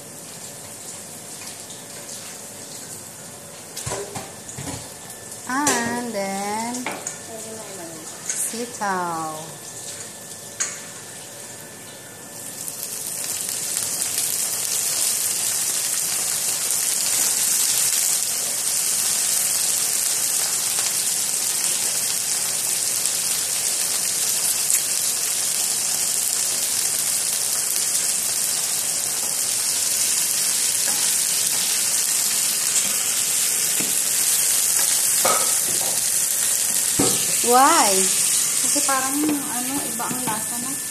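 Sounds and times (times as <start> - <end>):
beans sizzling in oil: 0.0 - 40.9.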